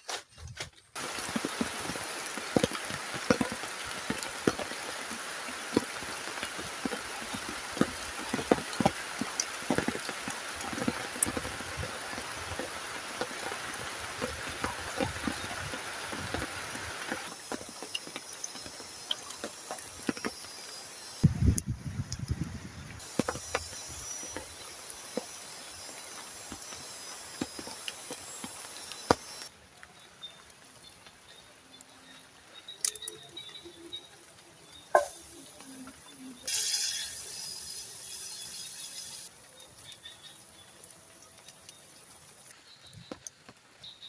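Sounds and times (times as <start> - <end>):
heavy rain falling: 1.0 - 44.0.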